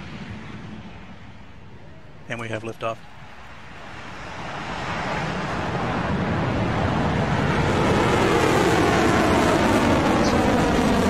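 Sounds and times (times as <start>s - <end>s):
rocket engines roaring: 0.0s - 11.0s.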